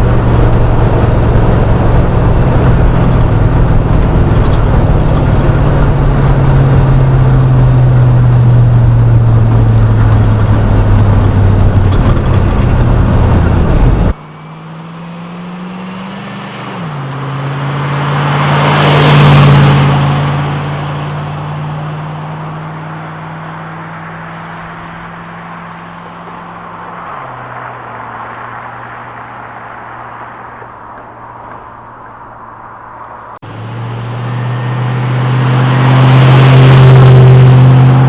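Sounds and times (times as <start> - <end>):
engine running with deep drone: 0.0 - 38.0
vehicle driving past: 0.0 - 38.0.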